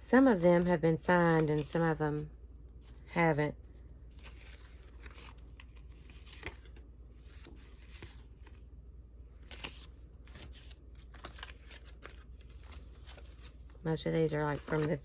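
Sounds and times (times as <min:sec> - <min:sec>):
paper cards rustling: 0:00.2 - 0:03.0, 0:04.1 - 0:15.0.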